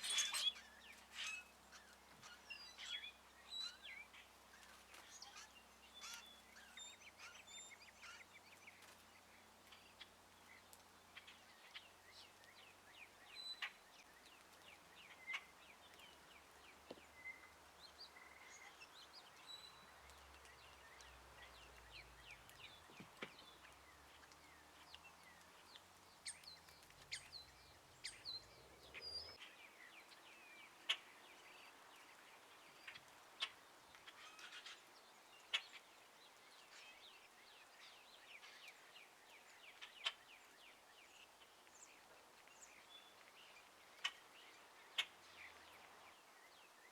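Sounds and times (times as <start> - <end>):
birds chirping faintly: 0.0 - 46.9.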